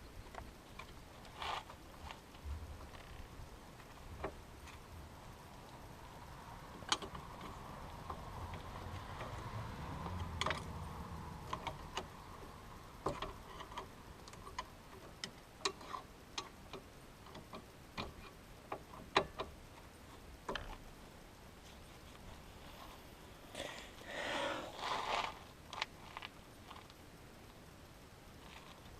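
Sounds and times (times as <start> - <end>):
faint low hum: 0.0 - 28.9.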